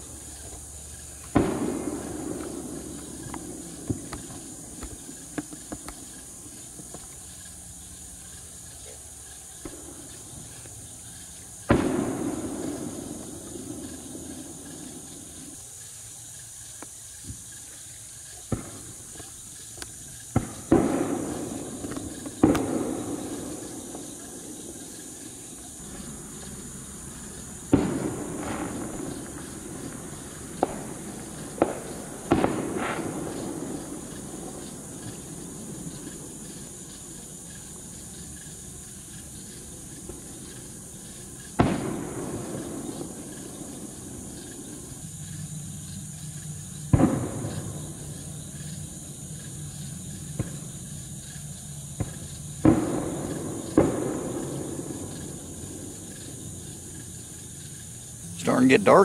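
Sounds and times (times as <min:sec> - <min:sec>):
distant fireworks bangs: 0:00.0 - 0:15.6, 0:18.2 - 0:59.0.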